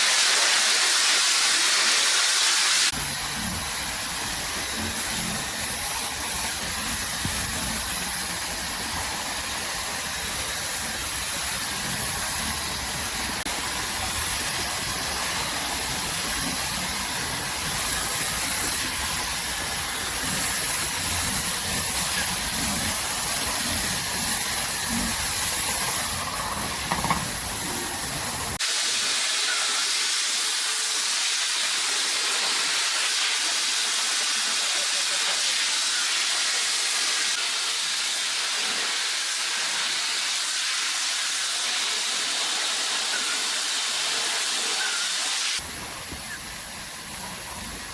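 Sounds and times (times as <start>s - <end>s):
loud hissing noise: 0.0s - 47.9s.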